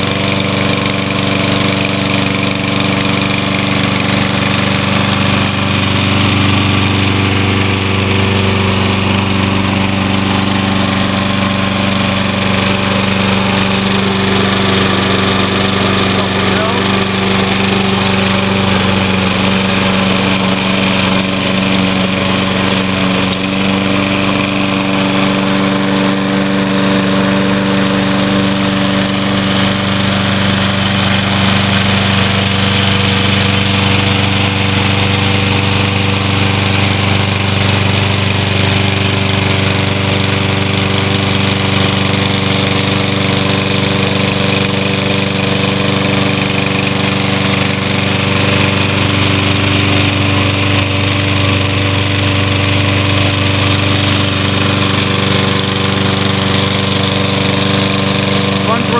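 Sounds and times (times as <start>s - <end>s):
lawn mower engine running: 0.0s - 58.9s.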